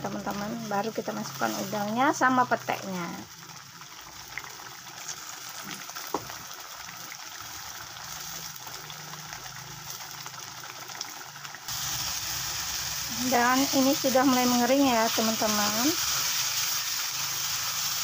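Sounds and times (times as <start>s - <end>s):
paste sizzling in a wok: 0.0s - 18.0s.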